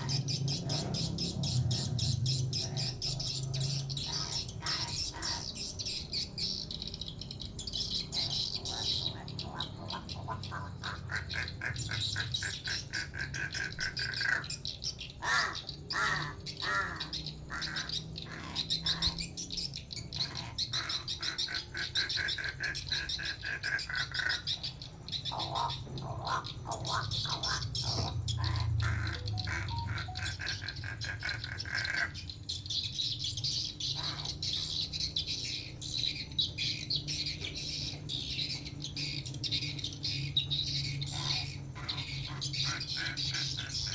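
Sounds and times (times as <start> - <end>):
crow squawking: 0.0 - 6.7, 7.7 - 43.9.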